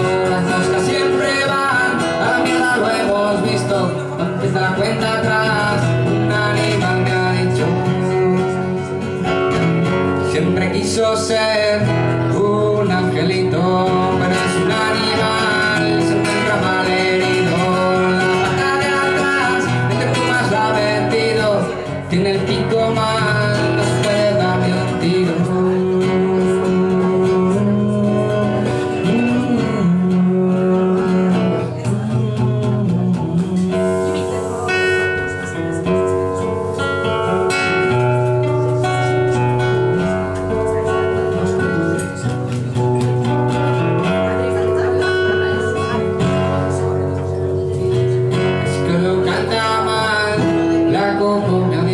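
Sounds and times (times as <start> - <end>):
acoustic guitar: 0.0 - 51.9
man singing into a microphone: 0.0 - 51.9.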